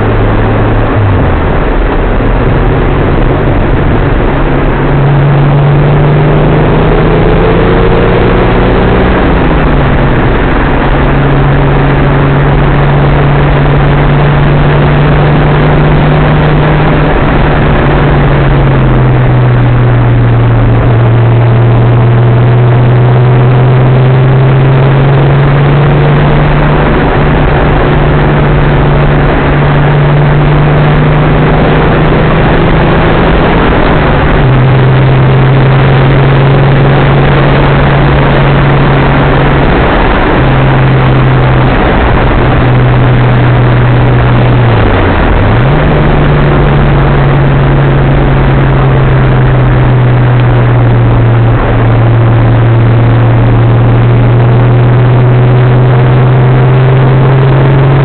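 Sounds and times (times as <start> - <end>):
car engine drone from cabin: 0.0 - 58.0
tyre and wind noise: 0.0 - 58.0.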